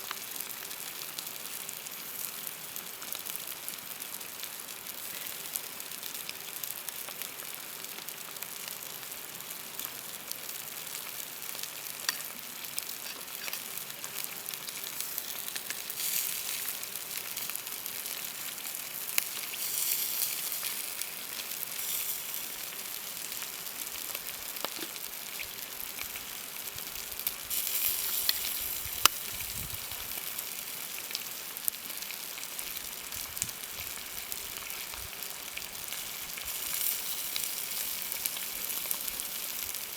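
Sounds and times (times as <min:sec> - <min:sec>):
food sizzling and popping: 0:00.0 - 0:39.9.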